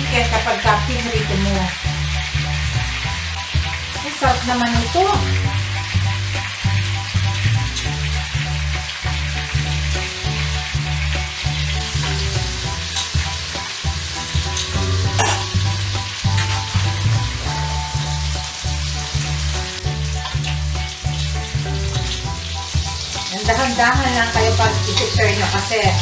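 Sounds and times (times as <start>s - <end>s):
background music with bass line: 0.0s - 26.0s
oil sizzling in a wok: 0.0s - 26.0s.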